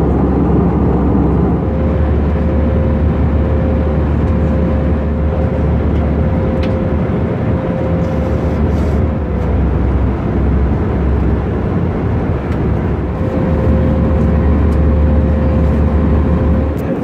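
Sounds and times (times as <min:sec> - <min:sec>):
airplane cabin engine rush: 0:00.0 - 0:17.0.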